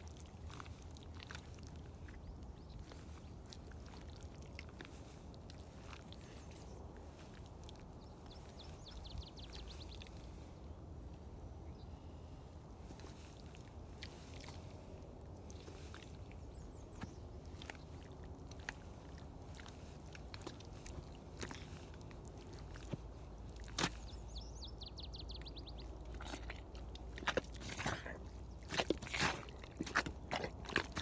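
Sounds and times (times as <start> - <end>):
boots squelching in mud: 0.0 - 10.4, 12.9 - 24.3, 25.9 - 31.0
steady low rumble: 0.0 - 31.0.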